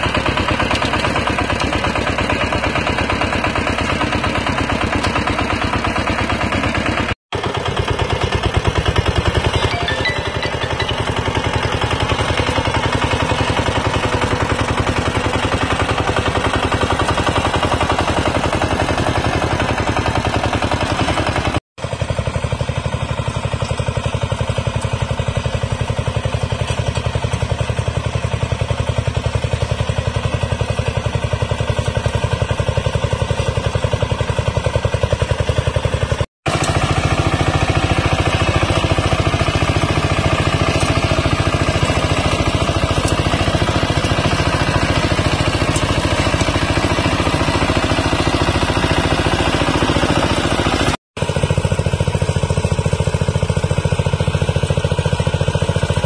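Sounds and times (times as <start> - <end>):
diesel engine running: 0.0 - 56.0
tines churning soil: 0.0 - 56.0.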